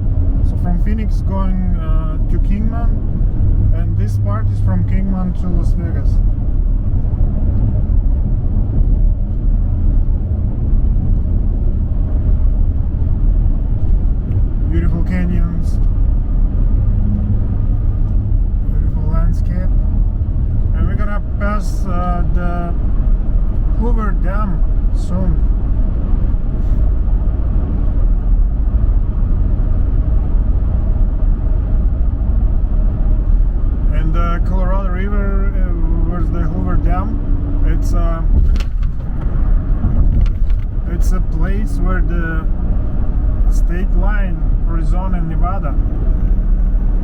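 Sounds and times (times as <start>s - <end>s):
car engine and tyre noise: 0.0s - 47.0s.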